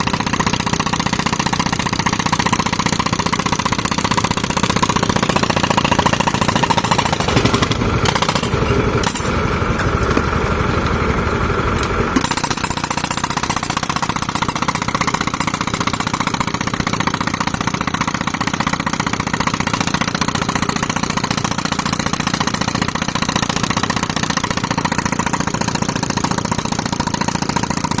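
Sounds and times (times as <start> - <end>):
tractor engine running compressor: 0.0 - 28.0.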